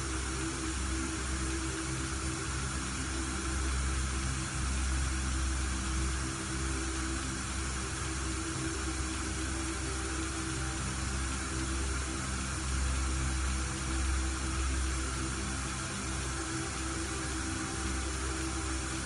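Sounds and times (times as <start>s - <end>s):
low humming tones: 0.0s - 19.0s
white noise hiss: 0.0s - 19.0s.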